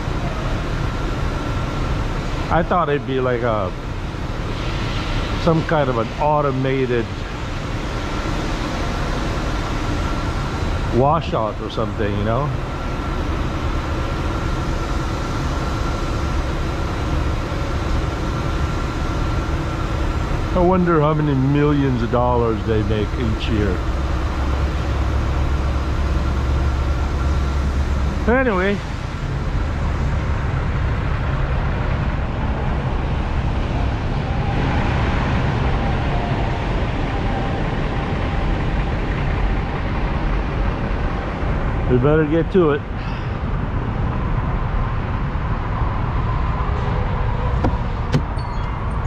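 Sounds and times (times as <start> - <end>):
faint even whine: 0.0 - 49.0
low mechanical rumble: 0.0 - 49.0
truck engines idling: 0.0 - 49.0.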